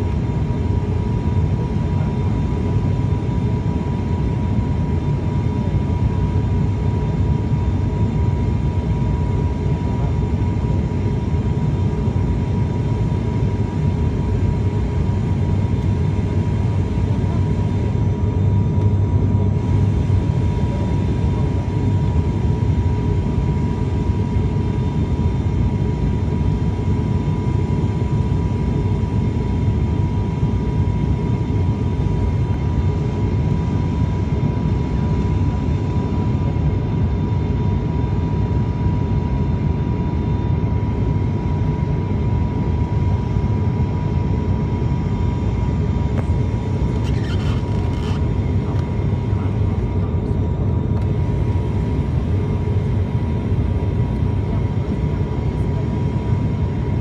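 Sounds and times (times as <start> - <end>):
airliner engine and propeller drone: 0.0 - 57.0.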